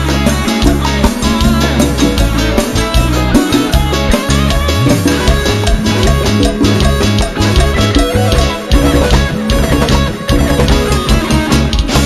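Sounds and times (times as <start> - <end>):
electric guitar lead: 0.0 - 12.0
live band playing: 0.0 - 12.0.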